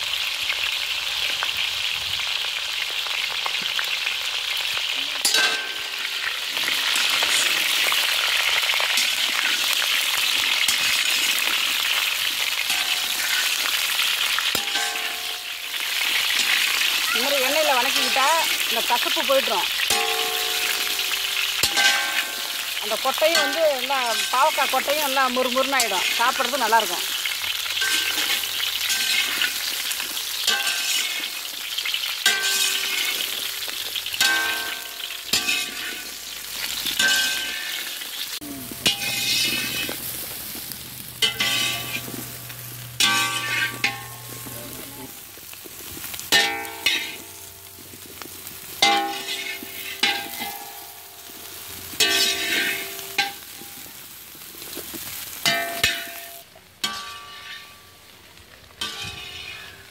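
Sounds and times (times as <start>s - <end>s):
vegetables sizzling in oil: 0.0s - 59.9s
metal ladle scraping pan: 5.2s - 26.8s, 27.6s - 53.8s, 54.7s - 58.2s, 58.8s - 59.9s.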